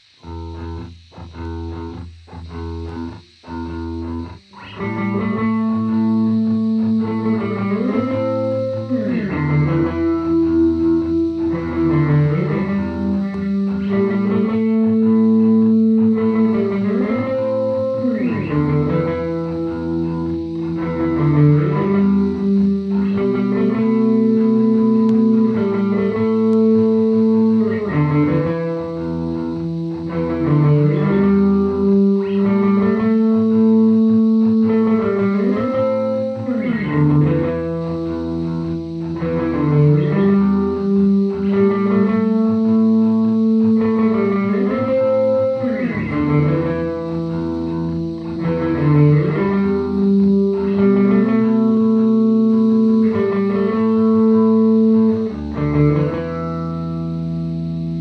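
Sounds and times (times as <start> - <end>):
electric guitar with effects: 0.0 - 58.0.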